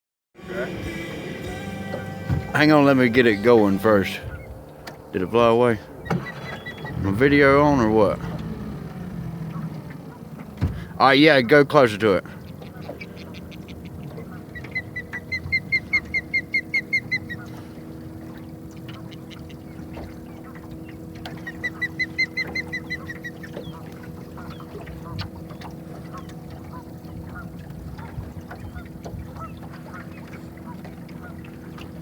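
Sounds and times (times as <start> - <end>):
bird calling: 0.4 - 32.0
steady low hum: 0.4 - 32.0.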